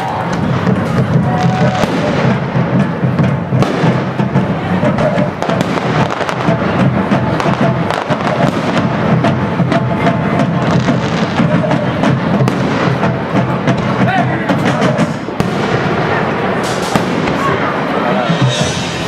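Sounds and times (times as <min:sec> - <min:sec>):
fireworks crackling and popping: 0:00.0 - 0:19.0
music: 0:00.0 - 0:19.0.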